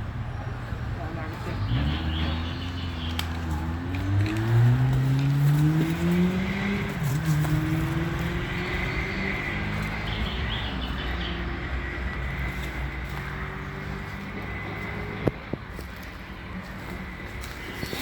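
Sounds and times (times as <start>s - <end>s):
vehicle engine accelerating: 0.0s - 18.0s.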